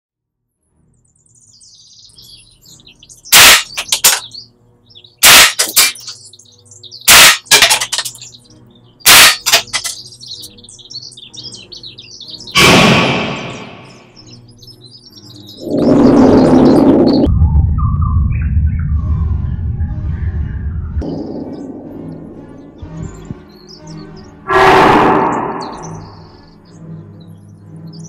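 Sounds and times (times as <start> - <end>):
birds chirping: 0.6 - 28.0.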